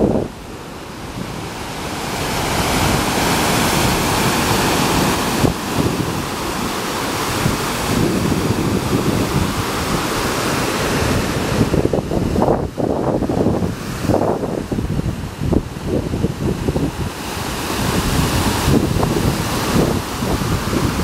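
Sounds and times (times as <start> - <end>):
surf breaking: 0.0 - 21.0
wind buffeting microphone: 0.0 - 21.0.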